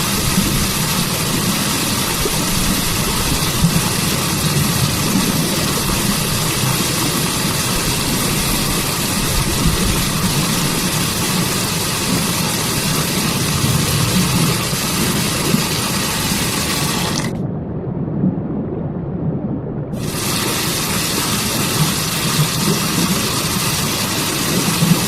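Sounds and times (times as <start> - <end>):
waterfall pouring into stream: 0.0 - 17.4, 20.0 - 25.0.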